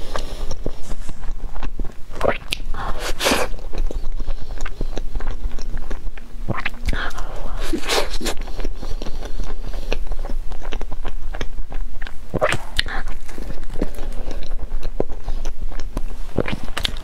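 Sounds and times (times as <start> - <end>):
person chewing cake: 0.0 - 17.0.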